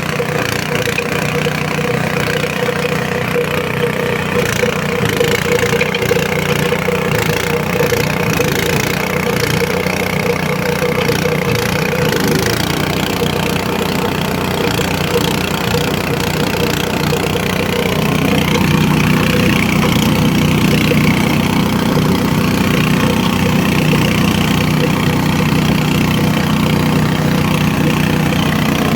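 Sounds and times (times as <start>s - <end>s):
shredder machine running: 0.0s - 28.9s.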